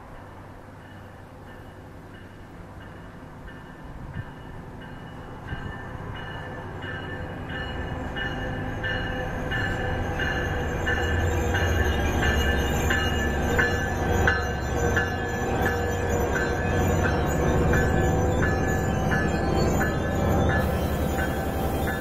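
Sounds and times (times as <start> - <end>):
locomotive and wheels rumbling: 0.0 - 22.0
locomotive bell ringing: 0.2 - 22.0.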